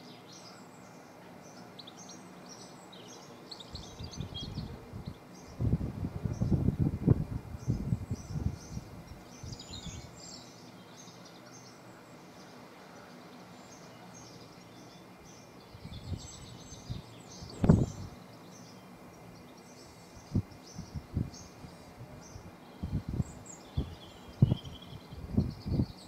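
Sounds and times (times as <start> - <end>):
small birds singing: 0.0 - 26.0.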